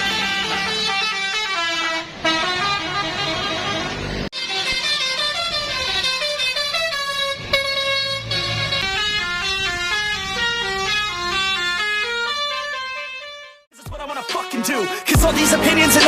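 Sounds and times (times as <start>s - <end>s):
bus horn playing a melody: 0.0s - 16.0s.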